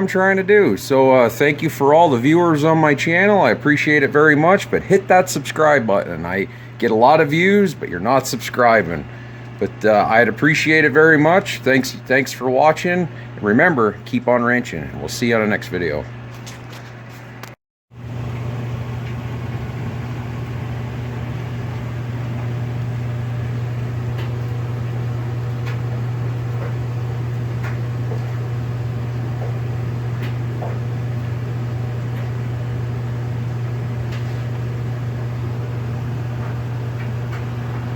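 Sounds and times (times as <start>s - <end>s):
motor hum with low drone: 0.0s - 37.9s.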